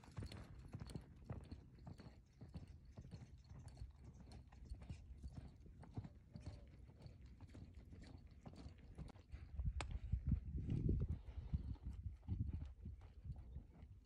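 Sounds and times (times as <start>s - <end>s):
horse hoofbeats on dirt: 0.0s - 14.0s.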